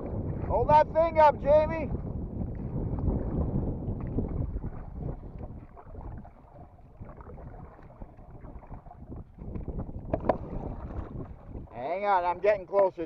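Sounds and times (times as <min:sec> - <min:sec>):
canoe knocks and splashes: 0:00.0 - 0:00.6, 0:01.8 - 0:11.8
wind buffeting microphone: 0:00.0 - 0:13.0.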